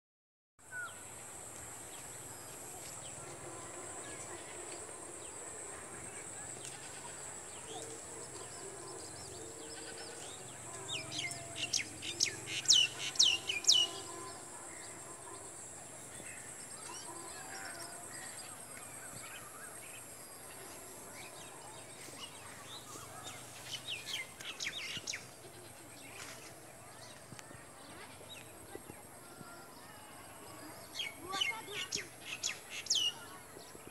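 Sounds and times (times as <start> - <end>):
rural background noise: 0.6 - 33.9.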